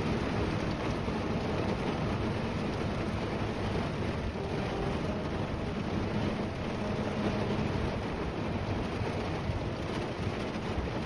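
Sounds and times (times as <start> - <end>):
rain drumming on a roof: 0.0 - 11.0
low rumble: 1.4 - 11.0.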